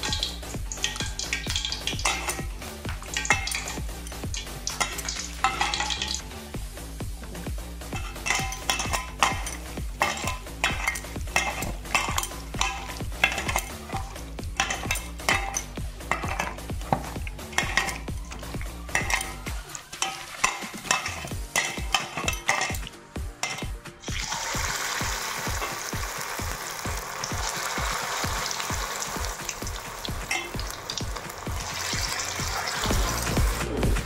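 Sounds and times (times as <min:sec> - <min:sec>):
food deep-frying in hot oil: 0:00.0 - 0:33.7.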